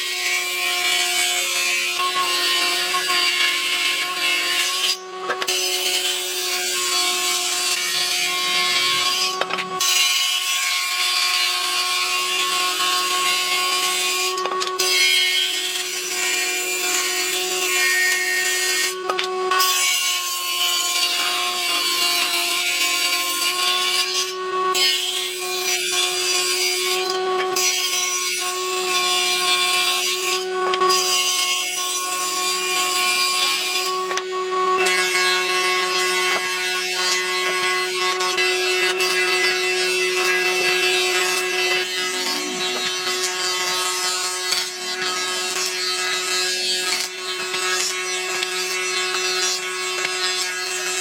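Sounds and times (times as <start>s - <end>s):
power tool motor whine: 0.0s - 51.0s
tool rasping wood: 0.0s - 51.0s.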